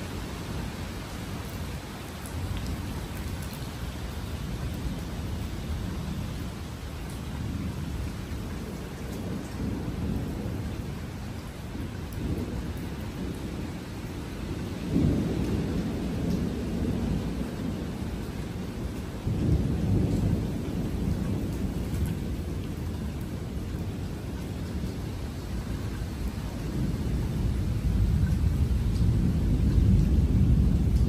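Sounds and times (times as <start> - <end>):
thunder rumbling: 4.3 - 31.0.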